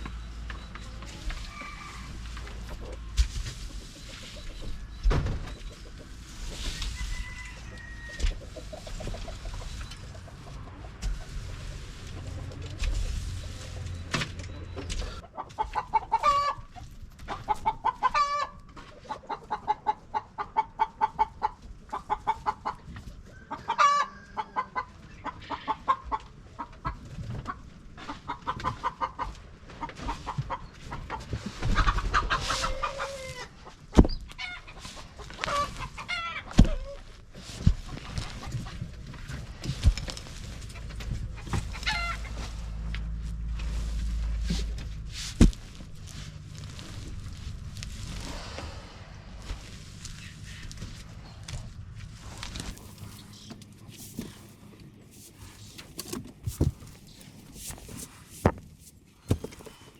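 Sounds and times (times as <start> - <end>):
chickens clucking: 0.0 - 45.1, 52.4 - 59.9.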